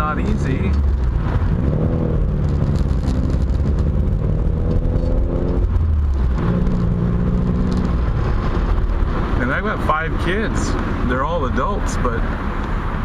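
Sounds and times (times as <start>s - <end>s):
car engine running: 0.0s - 13.0s
road rumble: 0.0s - 13.0s.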